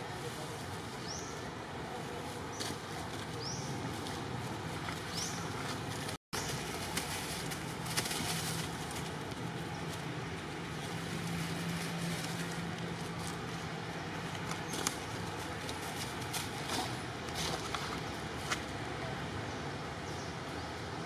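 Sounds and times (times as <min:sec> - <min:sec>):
dry leaves crackling: 0:00.1 - 0:18.6.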